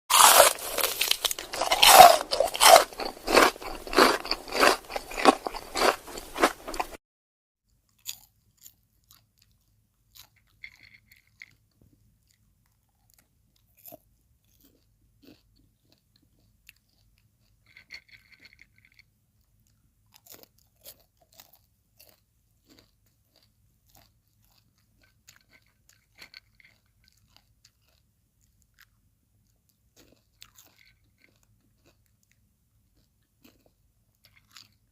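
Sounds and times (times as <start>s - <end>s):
popcorn crunching while chewed: 0.1s - 7.0s, 7.9s - 34.9s.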